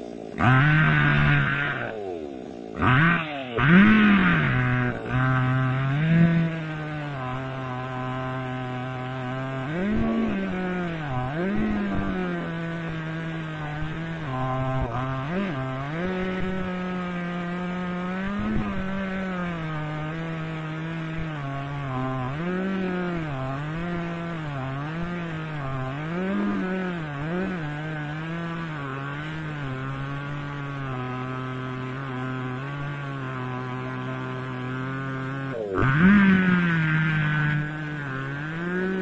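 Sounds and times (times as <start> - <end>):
chainsaw cutting through log: 0.0 - 39.0.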